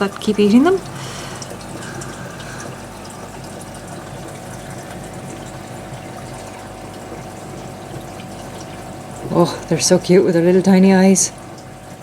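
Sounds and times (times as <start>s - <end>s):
aquarium water noise: 0.0s - 12.0s
low even hum: 0.0s - 12.0s.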